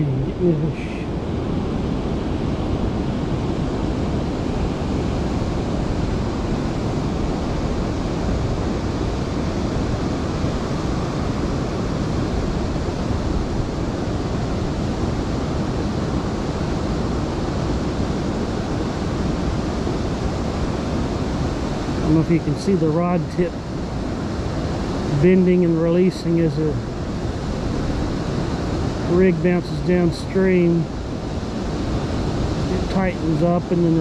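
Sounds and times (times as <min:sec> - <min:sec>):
river water rushing over dam: 0:00.0 - 0:34.0
wind buffeting microphone: 0:00.0 - 0:34.0.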